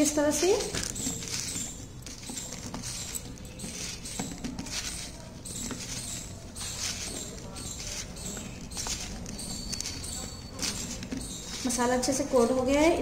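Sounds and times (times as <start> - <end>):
okra pods rustling: 0.0 - 13.0
pods clicking against plate: 0.0 - 13.0.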